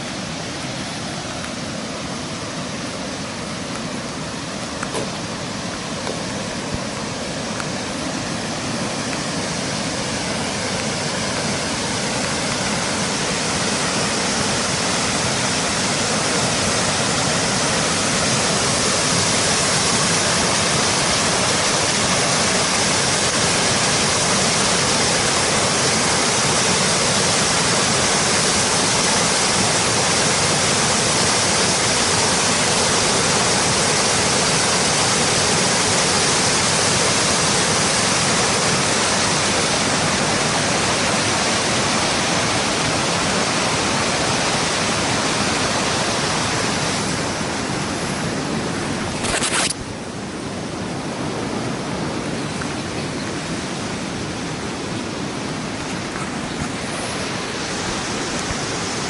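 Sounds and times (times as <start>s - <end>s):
waterfall rushing over rocks: 0.0s - 59.0s.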